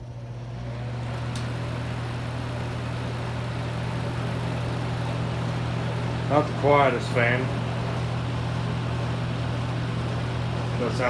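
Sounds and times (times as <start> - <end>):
fan motor hum: 0.0 - 11.0.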